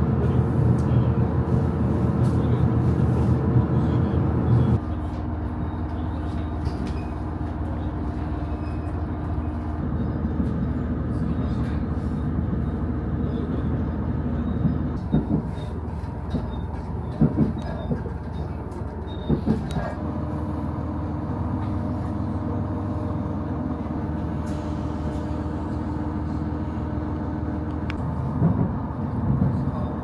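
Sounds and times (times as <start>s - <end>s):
railcar rumble: 0.0s - 30.0s.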